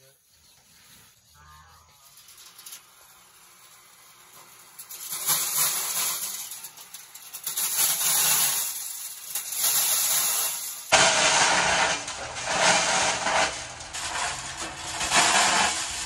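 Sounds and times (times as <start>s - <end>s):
electric corn sheller rattling: 2.0s - 16.0s.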